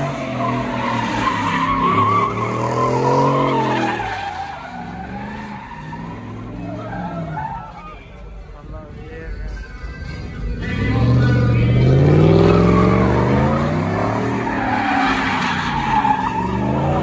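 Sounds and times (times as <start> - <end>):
truck engine revving: 0.0 - 8.1, 9.5 - 17.0
tyres squealing on wet pavement: 0.0 - 8.3, 10.5 - 17.0.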